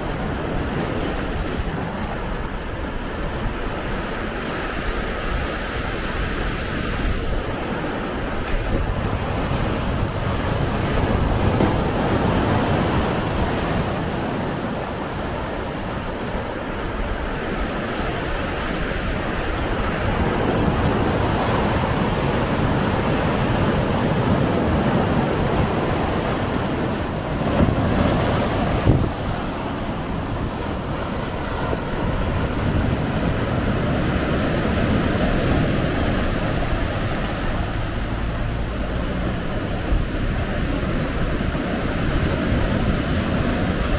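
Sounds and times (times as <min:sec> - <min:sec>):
surf washing over rocks: 0:00.0 - 0:43.9.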